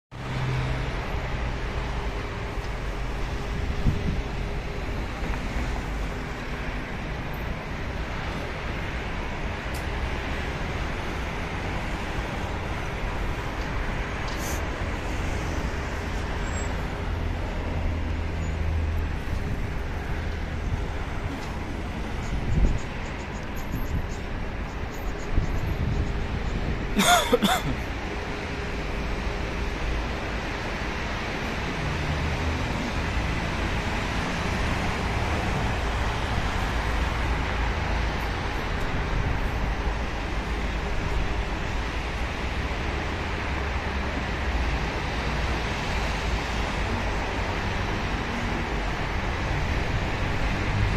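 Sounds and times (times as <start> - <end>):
low traffic rumble: 0.1 - 50.9
highway traffic hiss: 0.2 - 50.9.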